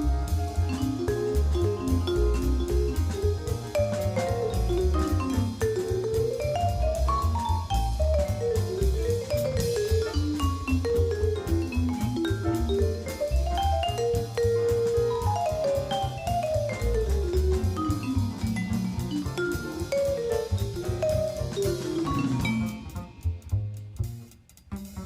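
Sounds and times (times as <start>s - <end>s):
jazzy vibraphone melody: 0.0s - 23.5s
steady drum beat: 0.0s - 25.0s.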